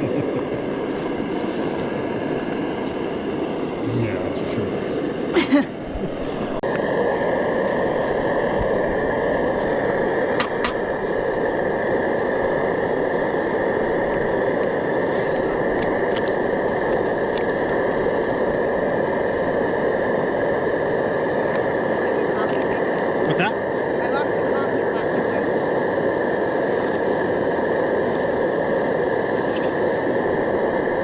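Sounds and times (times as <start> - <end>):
gas stove burner hissing: 0.0 - 31.0.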